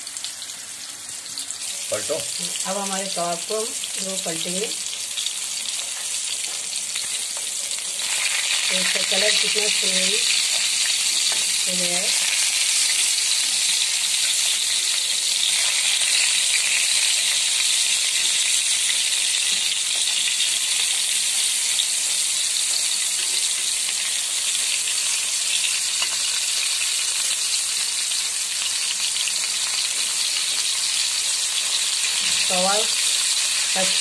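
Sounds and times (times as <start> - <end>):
patties sizzling in hot oil: 0.0 - 34.0.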